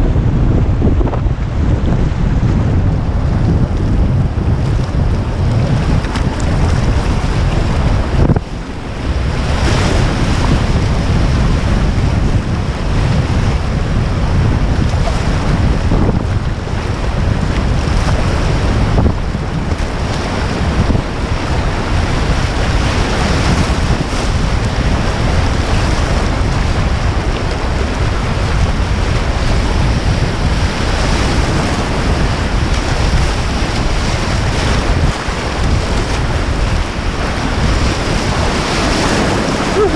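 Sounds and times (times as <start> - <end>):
wind buffeting microphone: 0.0 - 39.9
rushing river water: 0.1 - 39.9.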